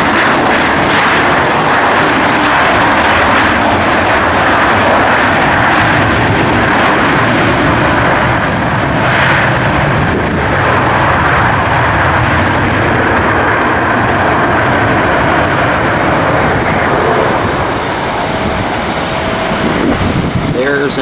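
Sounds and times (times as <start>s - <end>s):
jet engine rush: 0.0s - 21.0s.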